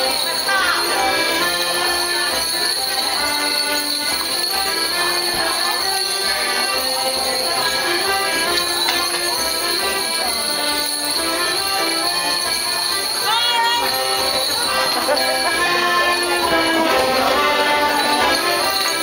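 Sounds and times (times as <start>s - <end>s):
folk dance tune: 0.0s - 19.0s
jingling leg bells: 0.0s - 19.0s.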